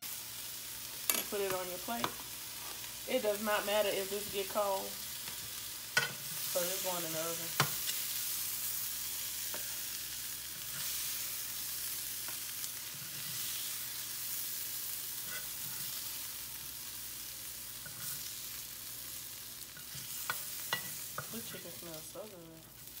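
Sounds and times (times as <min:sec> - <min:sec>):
chicken sizzling in a frying pan: 0:00.0 - 0:23.0.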